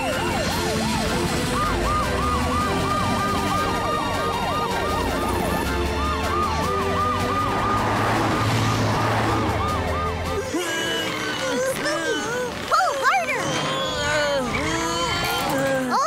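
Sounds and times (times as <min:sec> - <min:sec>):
cartoon sirens yelping: 0:00.0 - 0:16.0.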